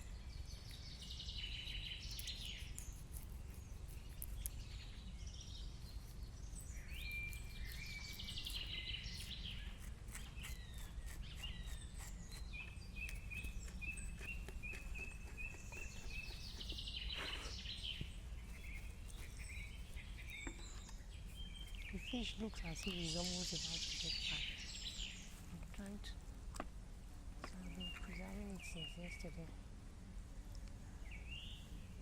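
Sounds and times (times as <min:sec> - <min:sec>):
wild birds calling and chirping: 0:00.0 - 0:26.2
low background hum: 0:00.0 - 0:32.0.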